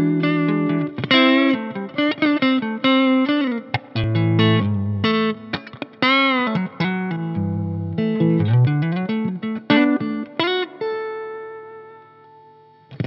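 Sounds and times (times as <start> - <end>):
electric guitar lead with bends: 0.0 - 13.0.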